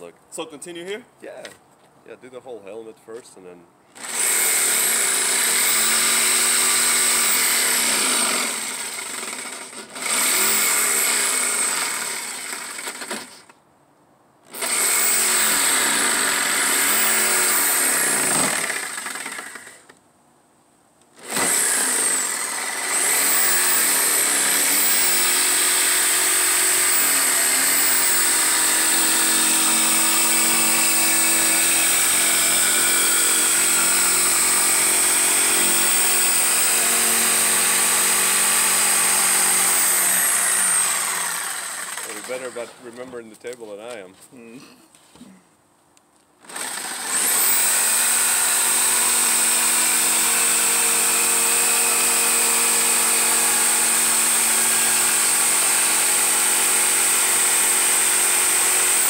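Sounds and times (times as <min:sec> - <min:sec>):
jigsaw cutting wood: 0:04.0 - 0:13.5, 0:14.5 - 0:20.0, 0:21.2 - 0:43.2, 0:46.4 - 0:59.0.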